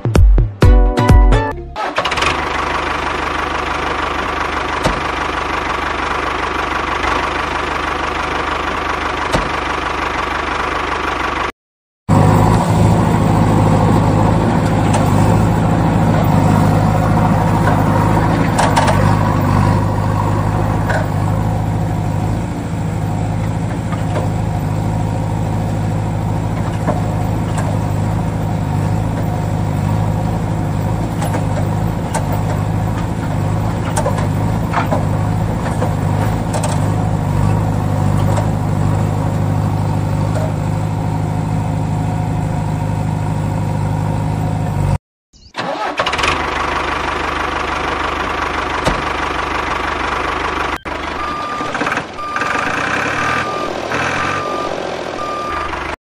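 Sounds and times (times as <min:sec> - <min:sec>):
rough running machine: 0:01.8 - 0:11.5, 0:12.1 - 0:45.0, 0:45.6 - 0:56.0.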